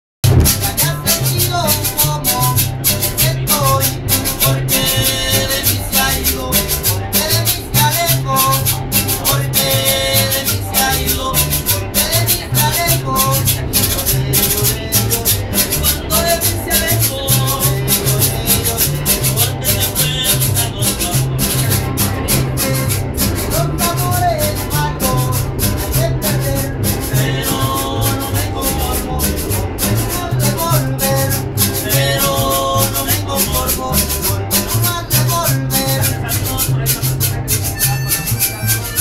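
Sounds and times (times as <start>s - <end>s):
acoustic guitar: 0.2s - 39.0s
hand percussion rhythm: 0.2s - 39.0s
plucked upright bass: 0.2s - 39.0s.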